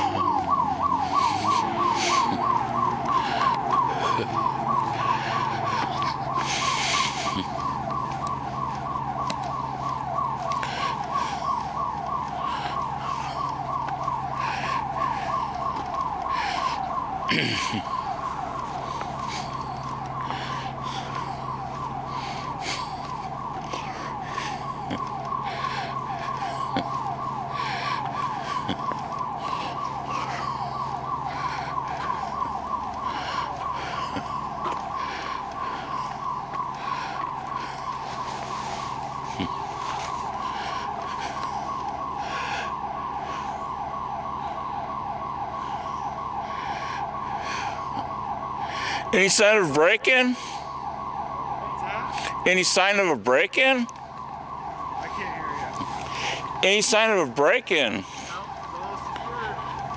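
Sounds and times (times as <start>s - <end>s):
car engine low hum: 0.0s - 49.2s
warbling alarm siren: 0.0s - 59.9s.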